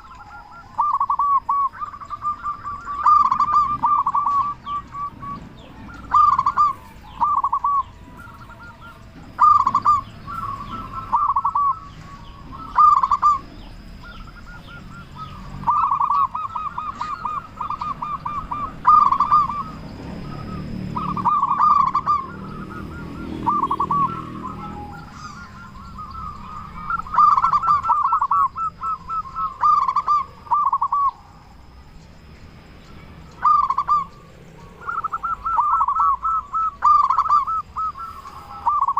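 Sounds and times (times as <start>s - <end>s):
dove cooing: 0.0s - 31.9s, 33.0s - 38.9s.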